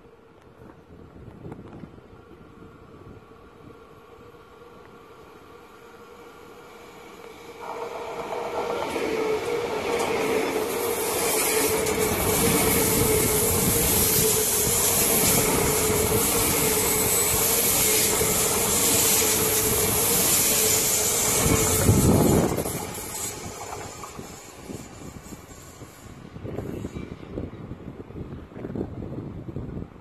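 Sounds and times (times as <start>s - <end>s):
train electric hum: 0.0s - 30.0s
train wheels rumbling on rails: 0.4s - 29.4s.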